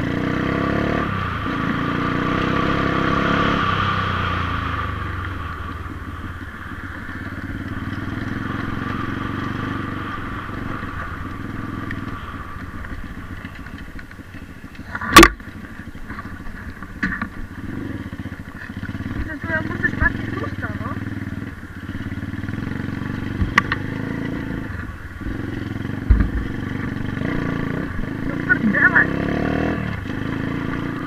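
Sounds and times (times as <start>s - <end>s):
motorbike engine running: 0.0s - 31.0s.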